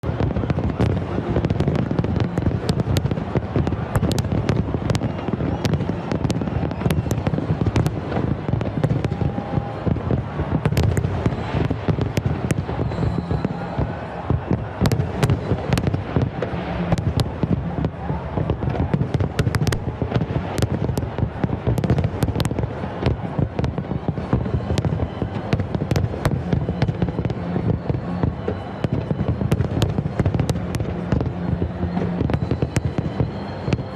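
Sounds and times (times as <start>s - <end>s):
fireworks bangs and crackles: 0.0s - 33.9s
low rumble of explosions: 0.0s - 33.9s.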